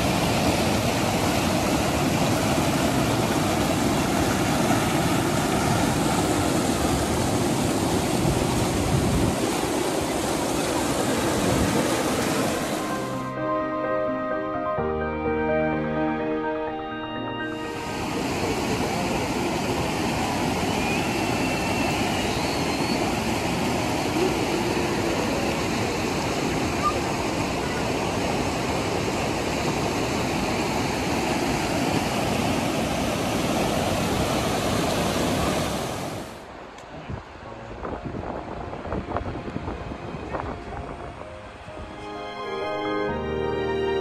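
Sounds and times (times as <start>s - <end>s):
river rapids roaring: 0.0s - 14.7s, 17.2s - 44.0s.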